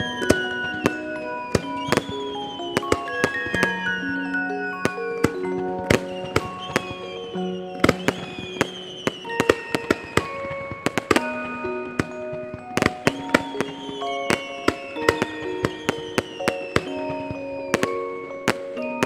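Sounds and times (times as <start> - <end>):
background music of held notes: 0.0 - 19.0
fireworks bursting: 0.0 - 19.0.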